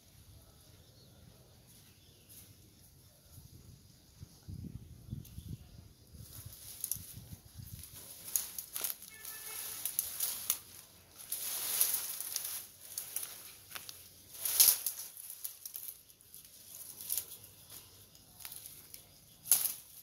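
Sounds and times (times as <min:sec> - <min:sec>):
branches rustling and crackling: 0:01.6 - 0:20.0.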